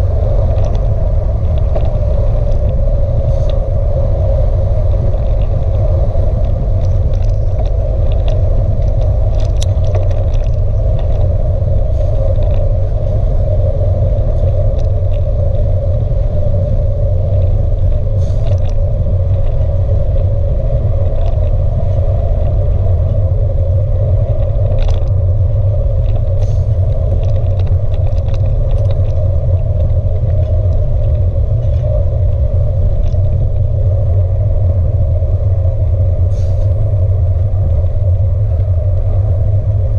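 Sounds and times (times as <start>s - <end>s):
tyres on tarmac: 0.0s - 39.9s
wind rumble: 0.0s - 39.9s.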